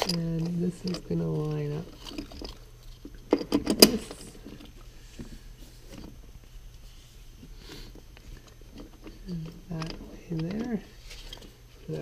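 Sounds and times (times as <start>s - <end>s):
faint handling noises: 0.0s - 12.0s.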